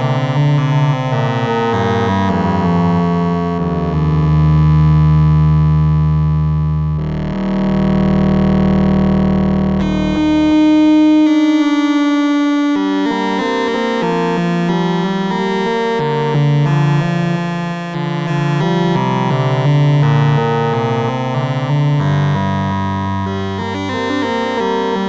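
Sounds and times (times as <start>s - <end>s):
analog synthesizer notes: 0.0s - 25.0s.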